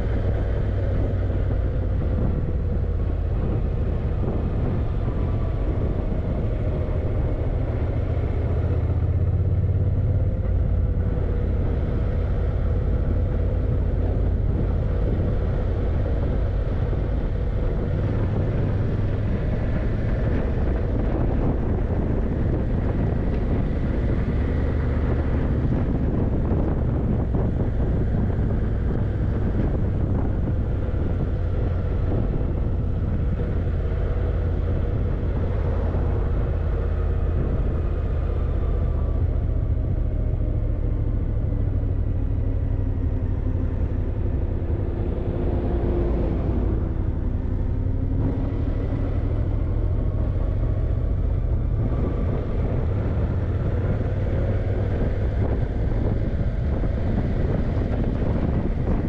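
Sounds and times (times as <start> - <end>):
heavy low rumble: 0.0 - 59.0.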